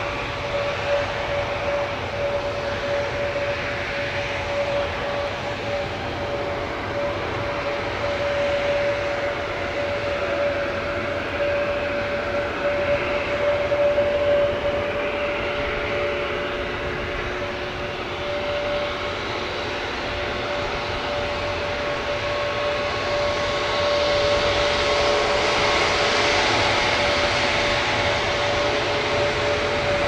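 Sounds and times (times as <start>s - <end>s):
jet engine whine and hiss: 0.0s - 30.0s
lower engine tone: 0.0s - 30.0s.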